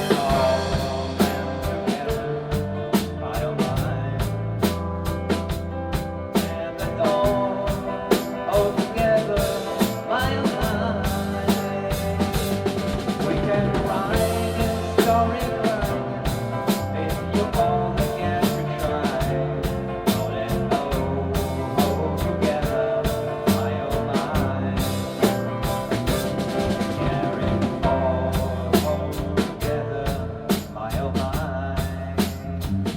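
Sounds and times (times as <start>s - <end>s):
rock band playing: 0.0s - 32.9s
steady drum beat: 0.0s - 32.9s.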